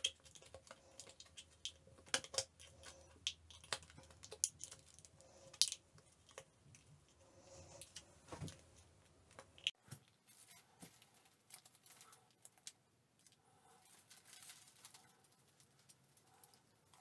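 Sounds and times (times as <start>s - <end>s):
plastic strip crinkling and ticking: 0.0s - 6.9s, 9.3s - 17.0s.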